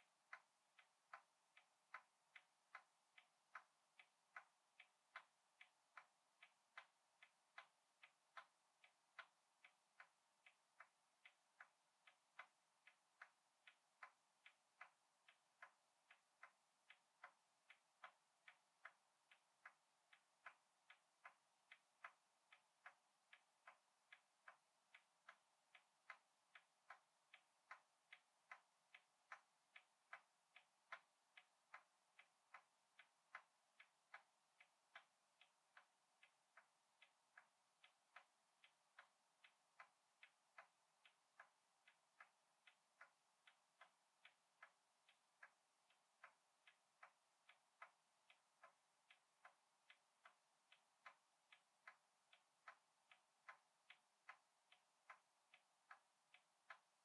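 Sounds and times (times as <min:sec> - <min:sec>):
clock ticking: 0:00.0 - 0:57.0.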